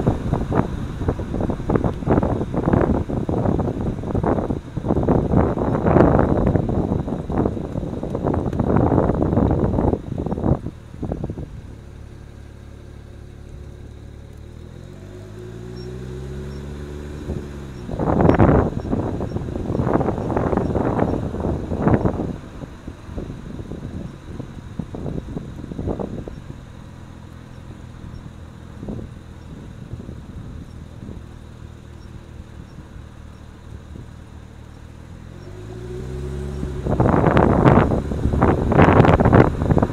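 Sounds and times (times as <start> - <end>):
wind noise on microphone: 0.0 - 12.2, 14.7 - 39.9
car engine revving: 0.0 - 39.9.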